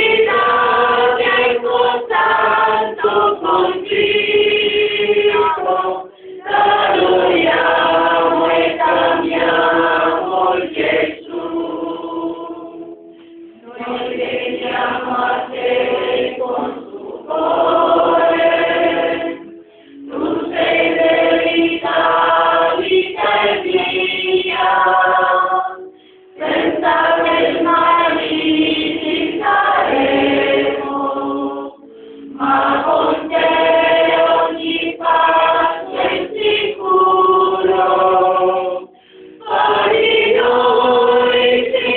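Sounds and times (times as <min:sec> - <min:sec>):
group singing a hymn: 0:00.0 - 0:41.9.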